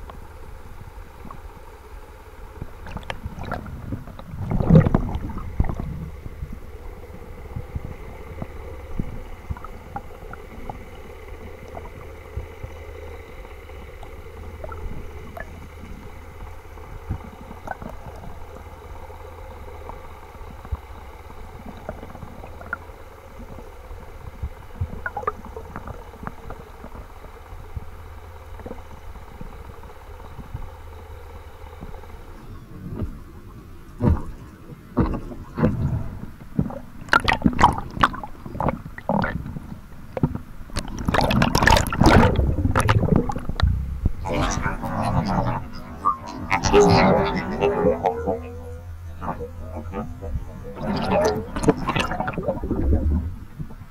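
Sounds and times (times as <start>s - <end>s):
steady low underwater rumble: 0.0s - 53.9s.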